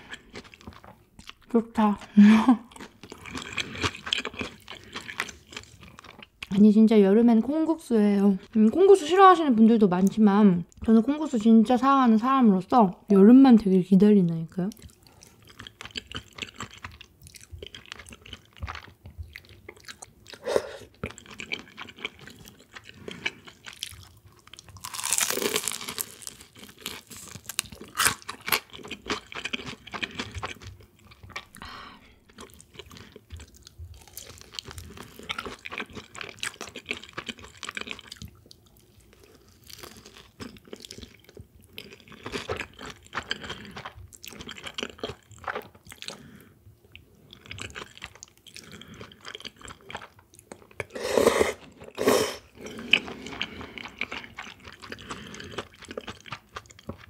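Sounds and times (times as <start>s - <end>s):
chewing and crunching: 0.0s - 6.6s, 14.7s - 51.0s, 51.6s - 57.0s.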